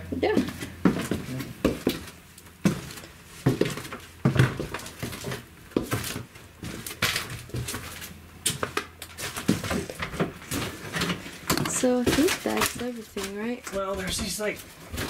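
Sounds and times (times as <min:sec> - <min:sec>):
footsteps: 0:00.0 - 0:15.0
shuffling and rustling: 0:00.2 - 0:15.0.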